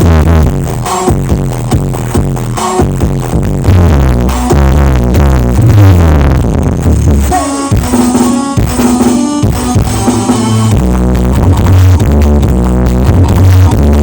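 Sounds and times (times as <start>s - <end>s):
drum beat: 0.0s - 14.0s
heavy bass: 0.0s - 14.0s
loud electronic dance music: 0.0s - 14.0s.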